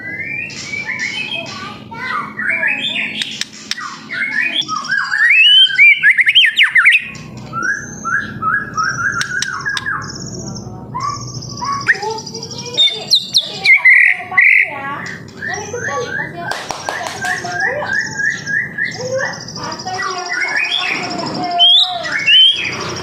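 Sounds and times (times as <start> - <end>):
bird singing whistles and trills: 0.0 - 23.0.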